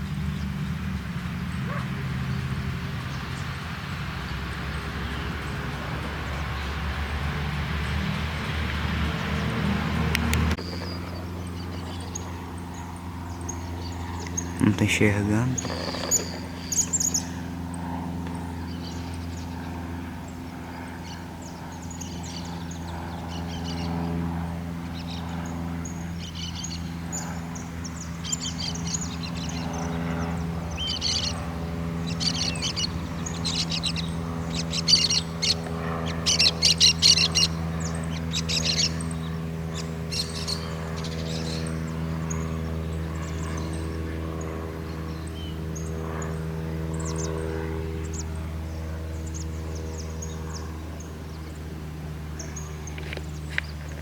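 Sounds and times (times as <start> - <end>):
distant light aircraft engine drone: 0.0 - 54.0
birds chirping: 9.1 - 54.0.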